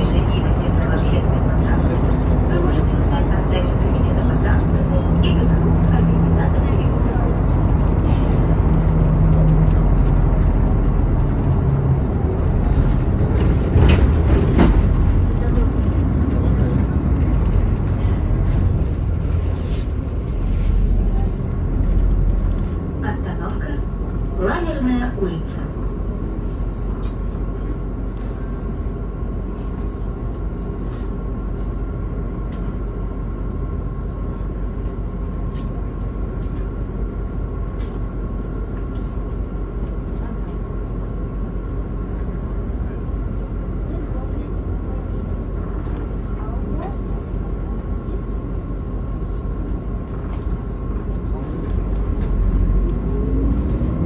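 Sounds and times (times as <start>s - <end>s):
bus engine drone: 0.0s - 54.0s
road and body noise: 0.0s - 54.0s.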